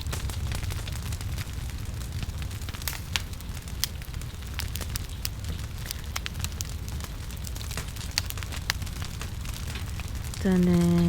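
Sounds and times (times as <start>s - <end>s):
firewood crackling and popping: 0.0s - 11.0s
low stove rumble: 0.0s - 11.0s.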